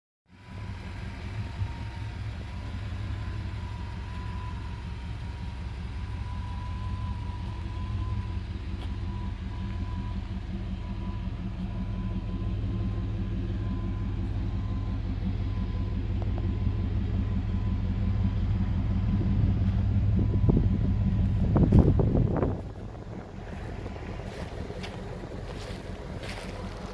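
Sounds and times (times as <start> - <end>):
pickup truck engine idling: 0.3 - 26.9.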